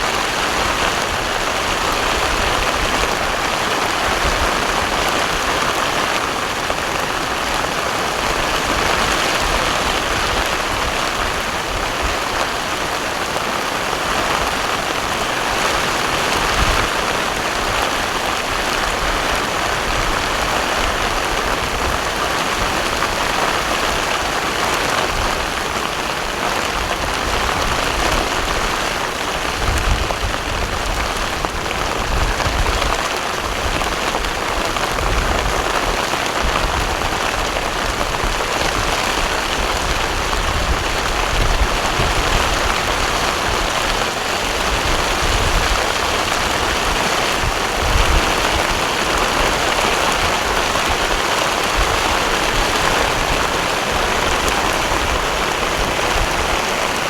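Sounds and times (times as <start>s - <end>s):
heavy rain on water: 0.0s - 57.0s.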